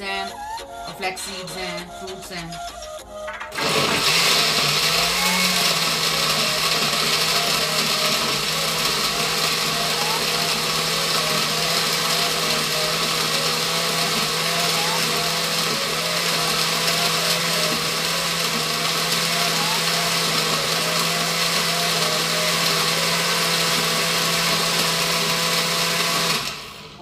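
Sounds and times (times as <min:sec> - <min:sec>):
electric blender running: 0:00.9 - 0:02.6, 0:03.4 - 0:27.0.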